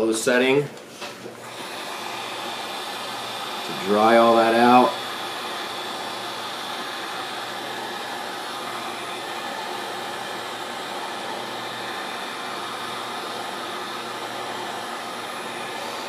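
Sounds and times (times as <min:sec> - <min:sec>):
heat gun blowing hiss: 0:00.9 - 0:16.0.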